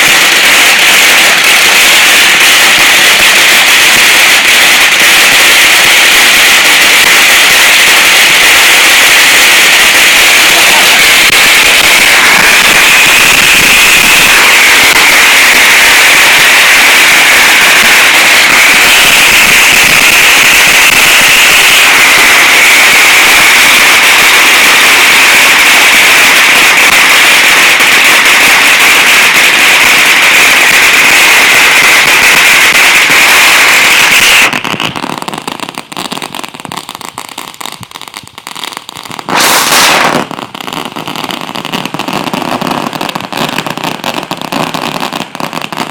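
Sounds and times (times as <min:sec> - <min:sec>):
firecrackers crackling: 0:00.0 - 0:45.9.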